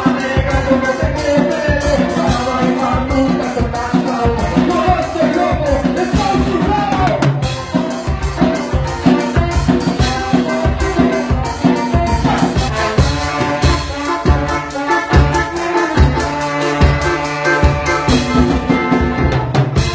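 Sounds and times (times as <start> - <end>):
drums fast beat: 0.0 - 19.9
live band playing: 0.0 - 19.9.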